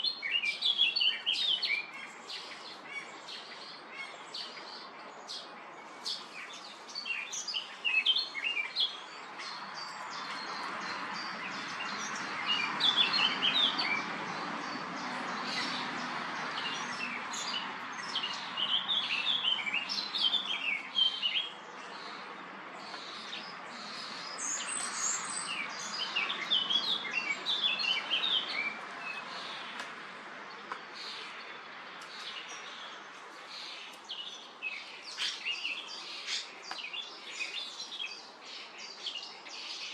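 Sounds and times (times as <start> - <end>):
starlings chirping: 0.0 - 29.8, 30.5 - 39.9.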